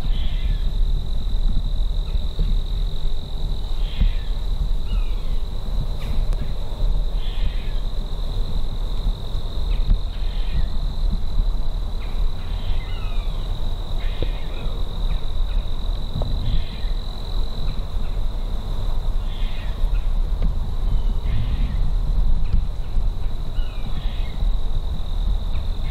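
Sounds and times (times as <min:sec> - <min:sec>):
high-pitched insect drone: 0:00.0 - 0:22.0, 0:22.8 - 0:25.9
insect chirping calls: 0:00.0 - 0:25.9
low microphone rumble: 0:00.0 - 0:25.9.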